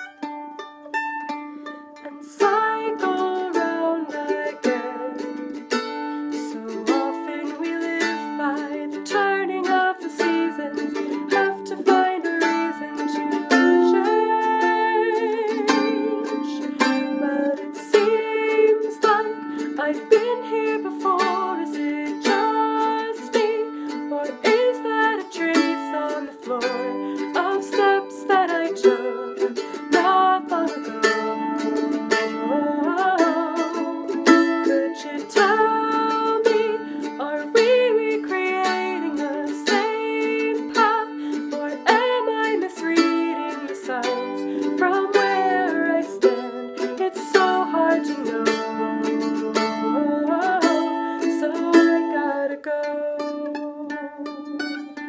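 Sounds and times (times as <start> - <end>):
strummed stringed instrument: 0.0 - 55.0
woman singing: 2.0 - 55.0.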